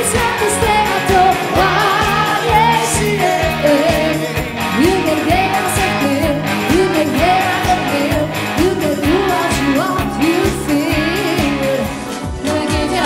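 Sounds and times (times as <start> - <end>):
pop dance music with singing: 0.0 - 13.0.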